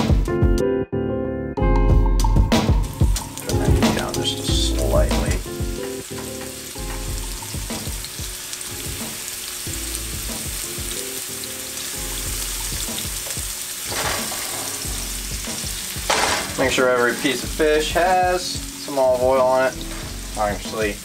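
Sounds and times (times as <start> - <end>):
background music: 0.0 - 21.0
fish sizzling in frying pan: 2.6 - 21.0.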